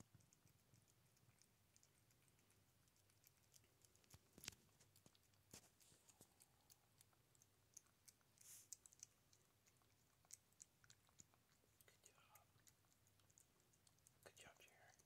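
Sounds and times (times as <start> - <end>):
cat chewing and licking food: 0.0 - 15.0
soft rustle: 0.0 - 15.0.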